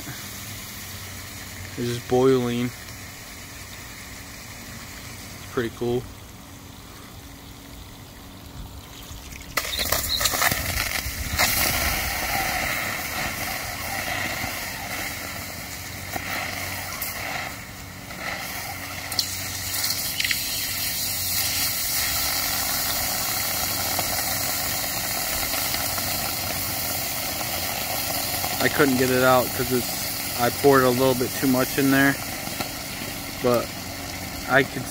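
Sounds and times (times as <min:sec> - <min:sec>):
hose water spraying: 0:00.0 - 0:07.7, 0:08.3 - 0:34.9
water hissing on hot metal: 0:00.0 - 0:34.9.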